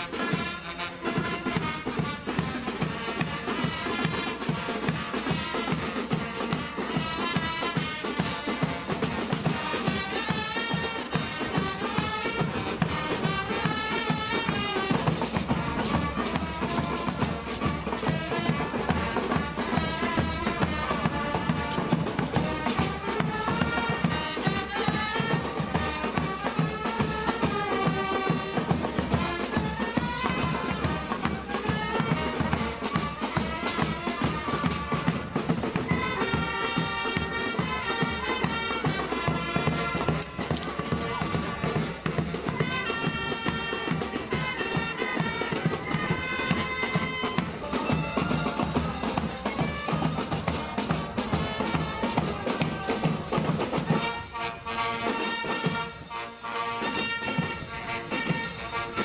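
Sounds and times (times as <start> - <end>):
brass and saxophone melody: 0.0 - 59.0
snare and bass drums: 0.0 - 59.0.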